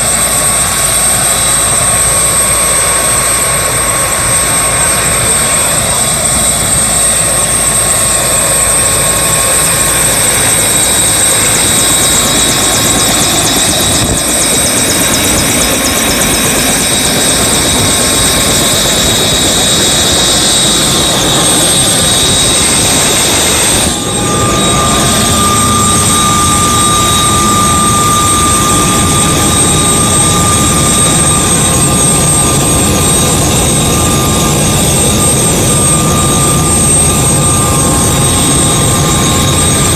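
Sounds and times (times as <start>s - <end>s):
helicopter rotor noise: 0.0s - 39.9s
high turbine whine: 0.0s - 39.9s.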